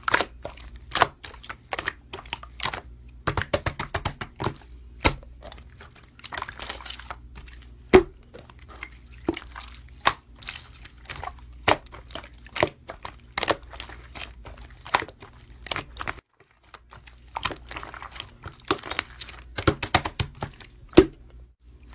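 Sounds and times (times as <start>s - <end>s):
slime squelching: 0.0s - 21.9s.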